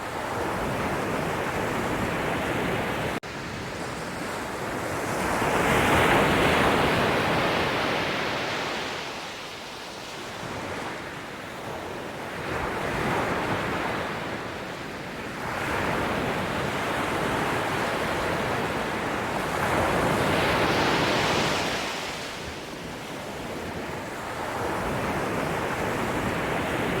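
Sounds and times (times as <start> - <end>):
waves breaking and washing in: 0.0 - 27.0.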